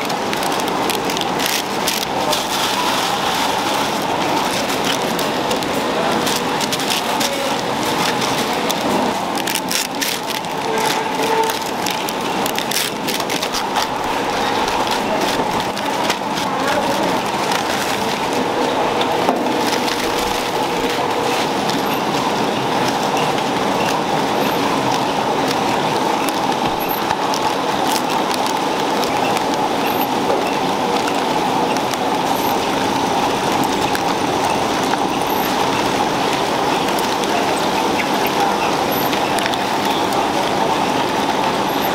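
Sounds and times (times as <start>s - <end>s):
packaging machinery running: 0.0s - 41.9s
plastic wrap crackling: 0.0s - 41.9s.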